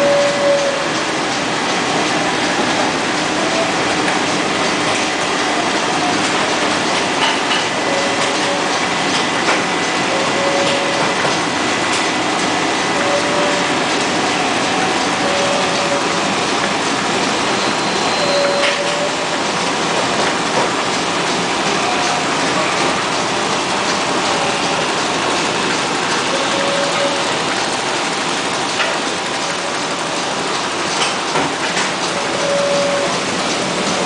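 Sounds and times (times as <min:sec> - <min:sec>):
printing press clatter: 0:00.0 - 0:34.0.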